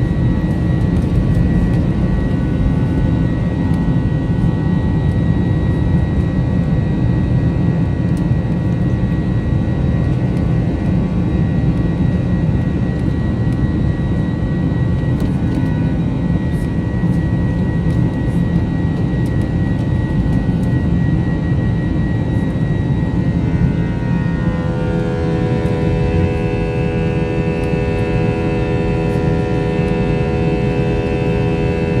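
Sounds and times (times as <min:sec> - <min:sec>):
jet engines roaring at takeoff: 0:00.0 - 0:32.0.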